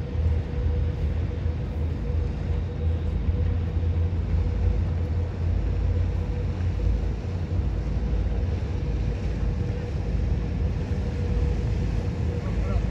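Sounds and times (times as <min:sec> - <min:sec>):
faint steady hum: 0:00.0 - 0:12.9
ship low rumble: 0:00.0 - 0:12.9.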